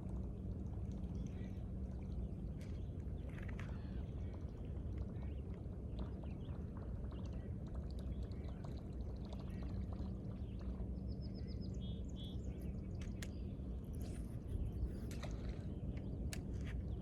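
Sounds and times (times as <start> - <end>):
faint steady hum: 0.0 - 17.0
low outdoor rumble: 0.0 - 17.0.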